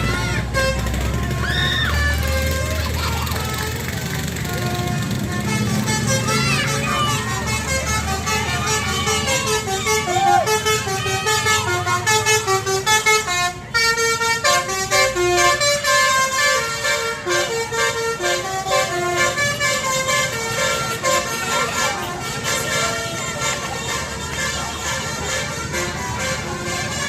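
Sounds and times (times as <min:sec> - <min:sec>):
musical bus horn playing tune: 0:00.0 - 0:27.0.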